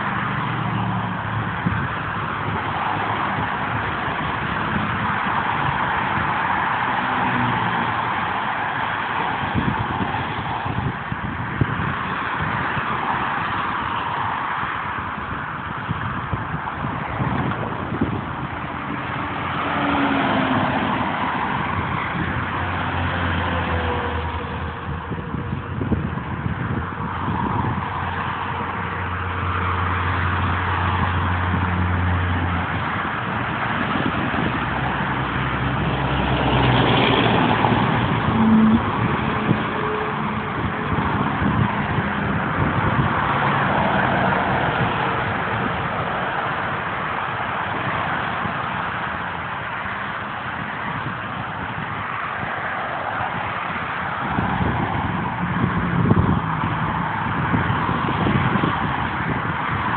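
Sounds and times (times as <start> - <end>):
truck engine drone passing: 0.0 - 15.3, 16.2 - 50.6
highway traffic passing: 0.0 - 59.9.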